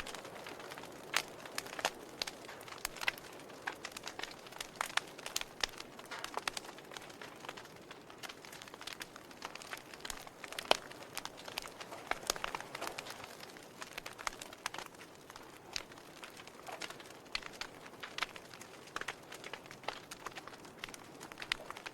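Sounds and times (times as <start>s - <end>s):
wood fire crackling and popping: 0.0s - 21.9s.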